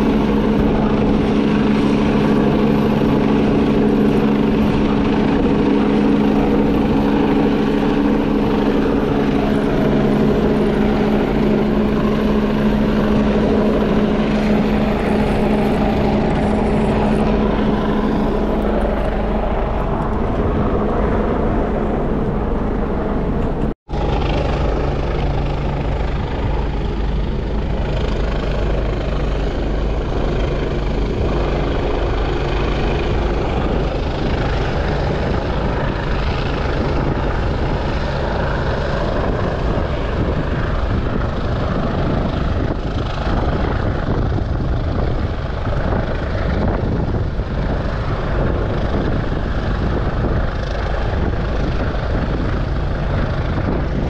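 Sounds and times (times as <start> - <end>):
helicopter droning hum: 0.0 - 54.0.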